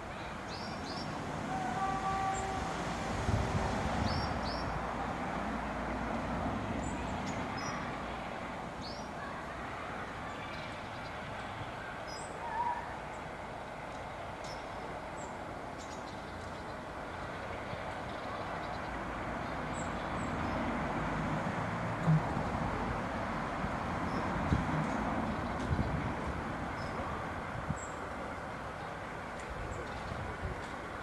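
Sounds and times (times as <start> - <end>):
distant diesel locomotive rumble: 0.0 - 31.0.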